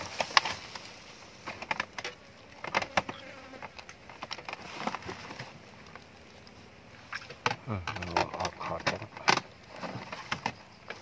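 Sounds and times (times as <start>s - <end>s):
rustling: 0.0s - 11.0s
faint insect buzz: 0.1s - 11.0s.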